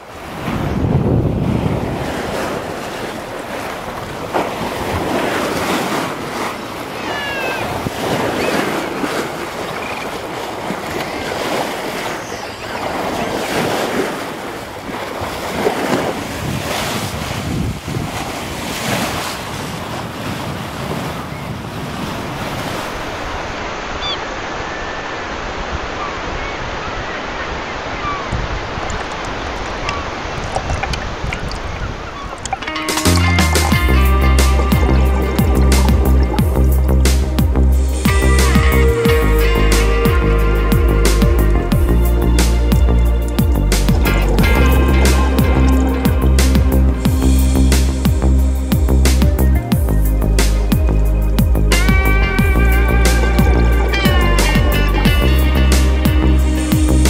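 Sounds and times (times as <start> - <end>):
wind noise on microphone: 0.0 - 12.1, 14.8 - 57.0
sea waves splashing: 0.0 - 57.0.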